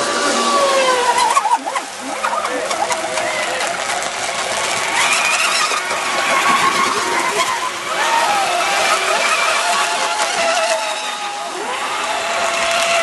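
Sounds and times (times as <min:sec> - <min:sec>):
racing boat motors whining: 0:00.0 - 0:13.0.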